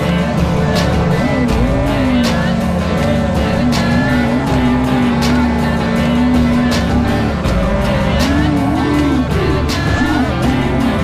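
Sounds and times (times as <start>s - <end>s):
car engine at high revs: 0.0s - 11.0s
music with a steady beat: 0.0s - 11.0s.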